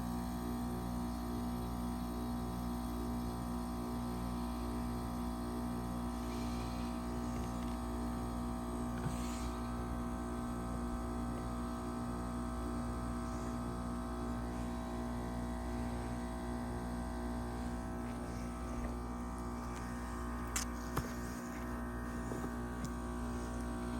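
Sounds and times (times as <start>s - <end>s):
heat pump humming: 0.0s - 23.9s.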